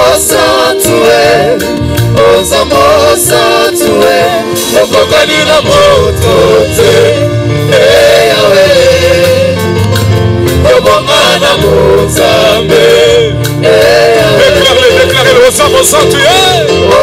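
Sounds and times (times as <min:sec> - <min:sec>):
male and female voices singing: 0:00.0 - 0:09.8, 0:10.6 - 0:17.0
band with guitar bass drums: 0:00.0 - 0:17.0.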